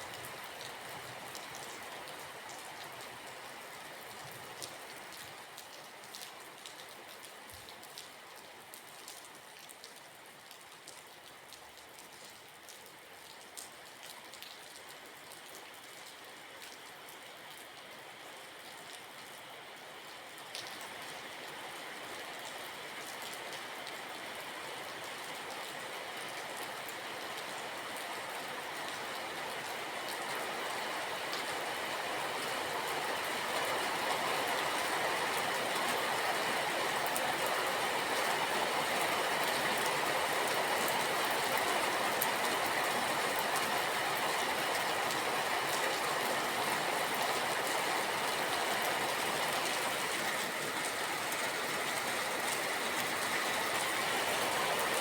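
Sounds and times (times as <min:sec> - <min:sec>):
steady rain: 0:00.0 - 0:55.0
raindrops ticking on a surface: 0:00.1 - 0:55.0.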